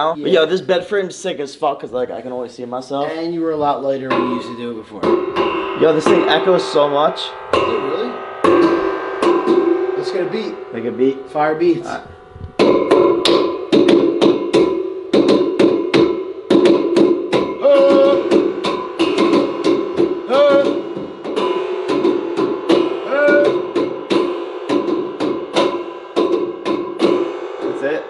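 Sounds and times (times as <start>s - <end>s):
hands drumming on metal rails: 3.0s - 28.0s.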